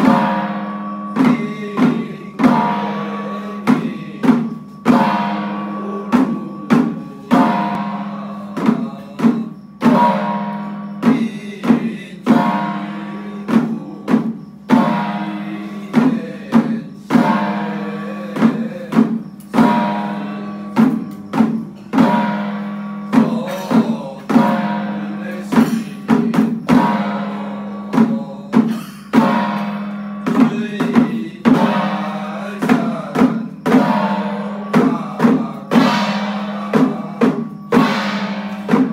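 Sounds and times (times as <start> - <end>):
ringing metal percussion: 0.0 - 38.9
steady low tone: 0.0 - 38.9
struck drums: 0.0 - 38.9.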